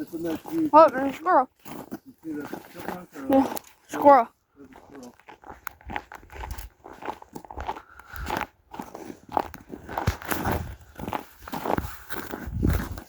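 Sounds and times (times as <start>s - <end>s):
footsteps crunching on frozen ground: 0.0s - 13.0s.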